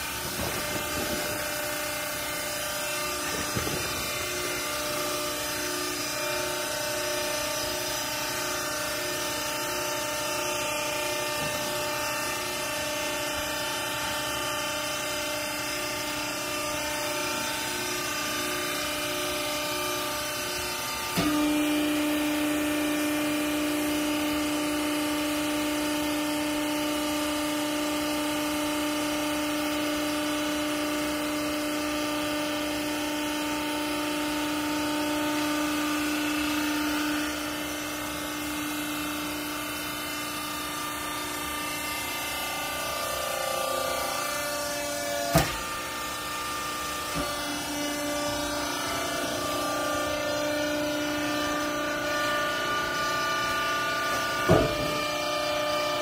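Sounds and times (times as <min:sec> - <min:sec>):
hydraulic power pack humming: 0:00.0 - 0:26.6, 0:28.8 - 0:56.0
louder steady hydraulic tone: 0:00.0 - 0:56.0.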